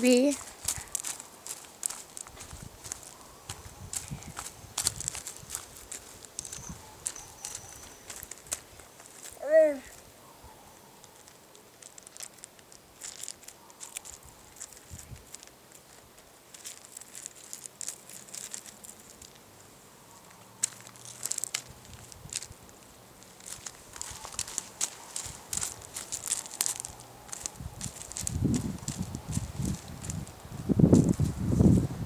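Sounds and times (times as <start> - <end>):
child's footsteps on dry ground: 0.0 - 10.2, 10.8 - 32.0.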